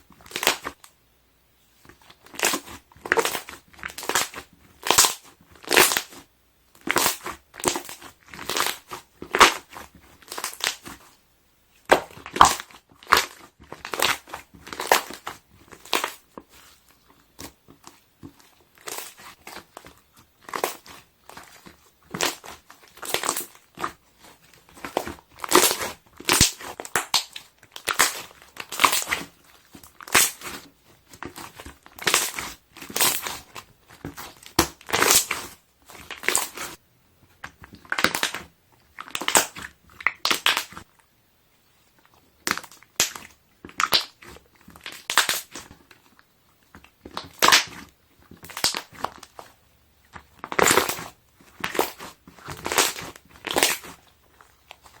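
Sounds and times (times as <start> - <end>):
slime squelching and popping: 0.0 - 0.9, 1.9 - 11.2, 11.8 - 41.0, 41.9 - 55.0.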